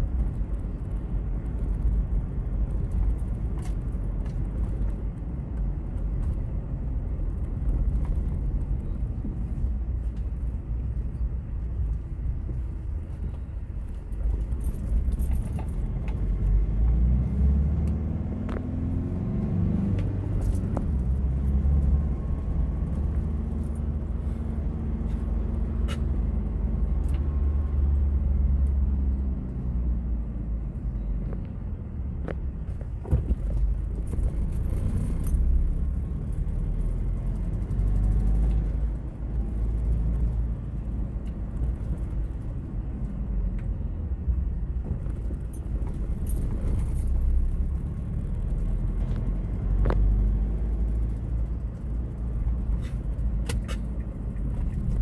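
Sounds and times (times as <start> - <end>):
car engine hum: 0.0 - 55.0
road noise: 0.0 - 55.0.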